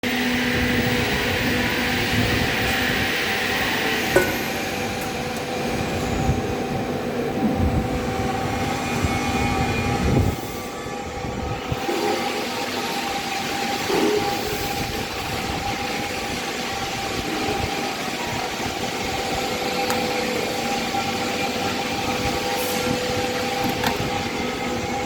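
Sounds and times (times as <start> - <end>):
industrial machinery humming: 0.0 - 25.0.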